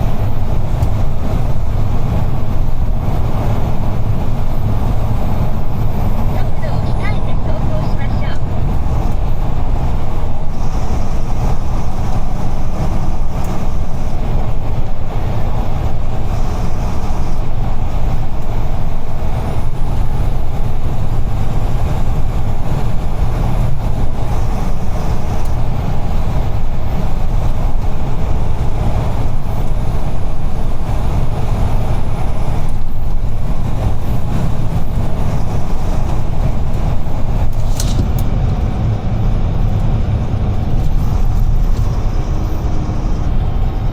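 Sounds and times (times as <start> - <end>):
truck engine and road drone: 0.0 - 43.9.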